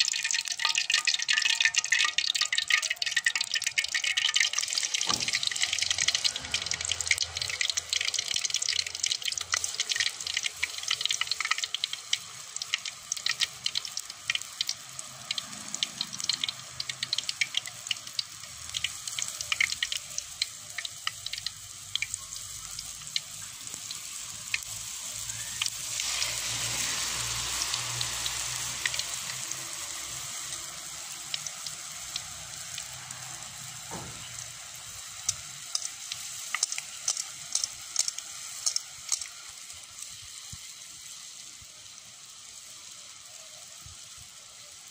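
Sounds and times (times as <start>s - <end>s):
batter frying sizzle: 0.0s - 44.9s
hot oil crackling and popping: 0.0s - 44.9s.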